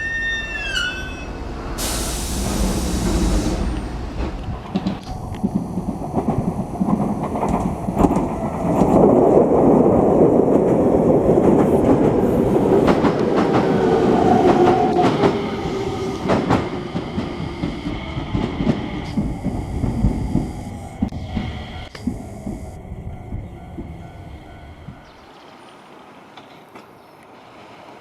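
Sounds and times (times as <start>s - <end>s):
electric train passing: 0.0s - 25.3s.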